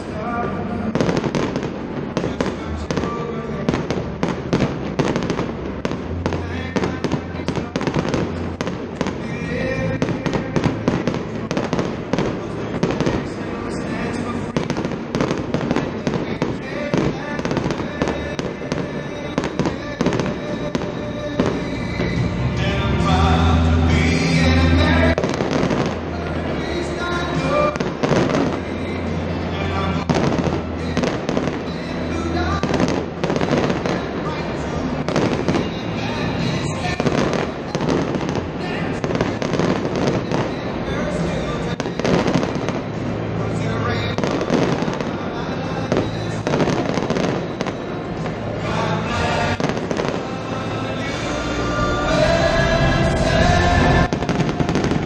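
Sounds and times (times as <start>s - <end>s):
fireworks bursting with sharp bangs: 0.0s - 55.0s
music: 0.0s - 55.0s.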